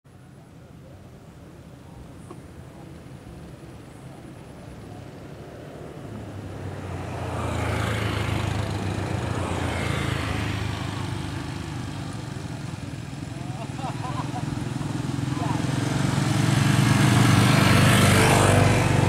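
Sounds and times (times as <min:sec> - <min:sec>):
boat engine humming: 0:00.3 - 0:19.0.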